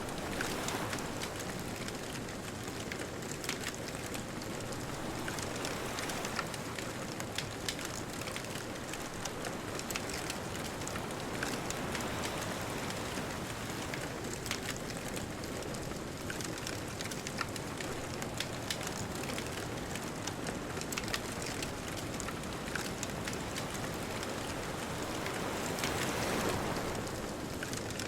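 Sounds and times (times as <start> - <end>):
bonfire crackling and popping: 0.2 - 28.0.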